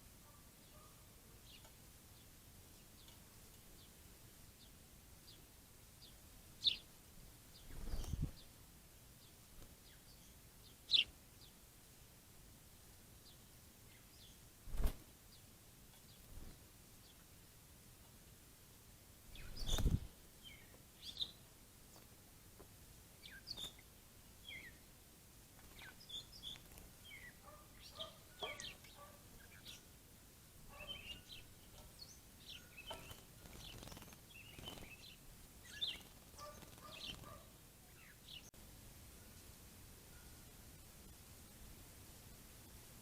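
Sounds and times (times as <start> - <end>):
songbirds chirping: 0.0 - 42.8.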